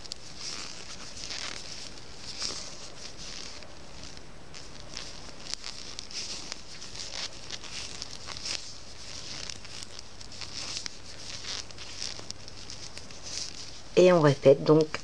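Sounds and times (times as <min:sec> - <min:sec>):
yarn rustling: 0:00.0 - 0:15.0.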